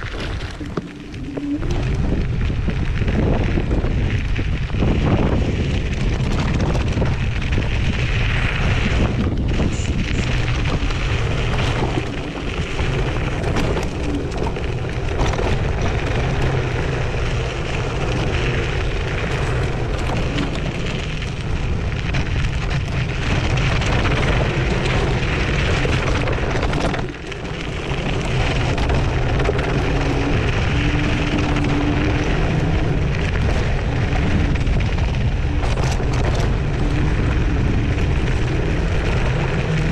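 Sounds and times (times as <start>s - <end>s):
scooter frame rattling: 0.0s - 39.9s
tyres crunching on gravel: 0.0s - 39.9s
wind rumble on microphone: 0.0s - 39.9s.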